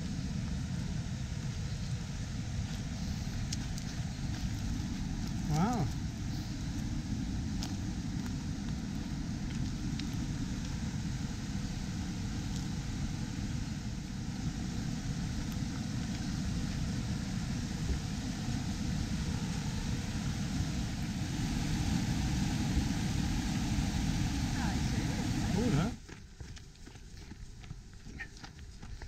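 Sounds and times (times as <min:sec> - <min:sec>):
river pouring over weir: 0:00.0 - 0:26.0.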